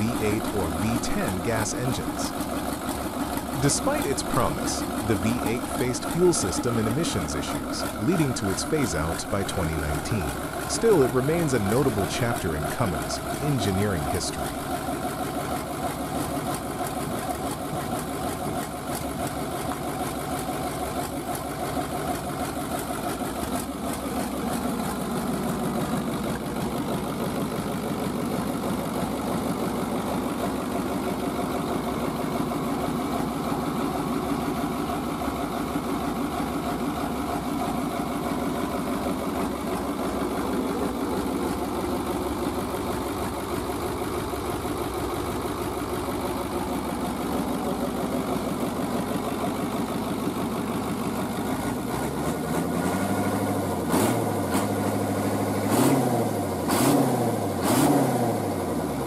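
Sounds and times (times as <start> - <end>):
diesel engine idling: 0.0 - 53.7.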